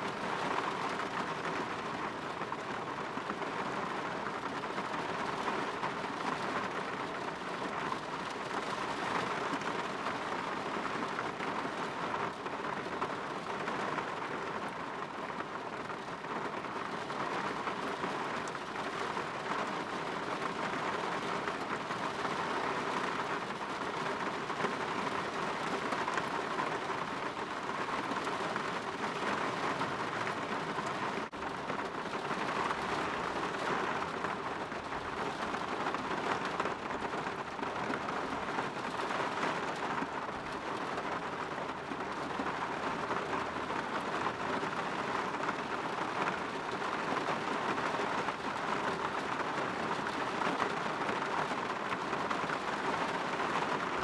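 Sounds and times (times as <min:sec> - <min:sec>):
rain pattering against window: 0:00.0 - 0:54.0.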